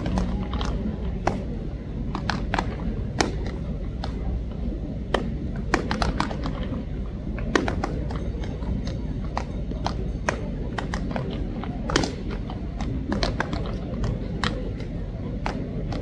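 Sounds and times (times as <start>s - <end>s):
baseballs smacking into gloves: 0.0s - 4.4s, 5.0s - 16.0s
low background noise: 0.0s - 16.0s.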